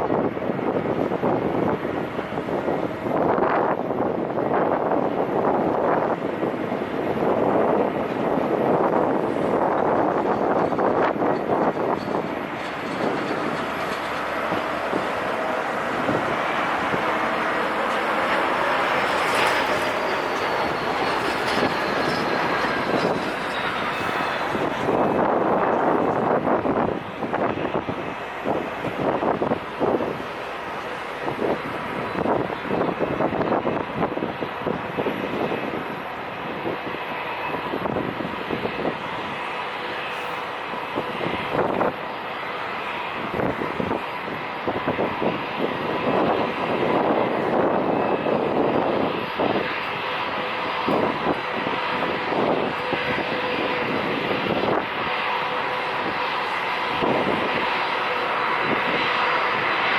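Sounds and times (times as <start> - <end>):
jet engines at takeoff power: 0.0 - 59.9
wind buffeting microphone: 0.0 - 59.9.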